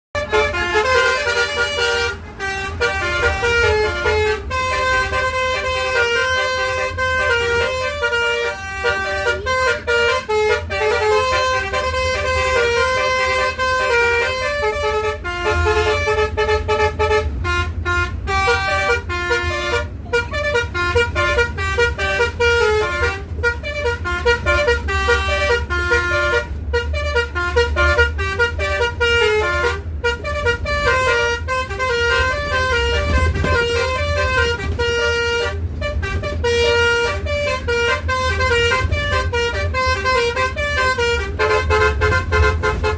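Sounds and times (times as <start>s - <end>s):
multi-tone air horn tune: 0.2s - 42.9s.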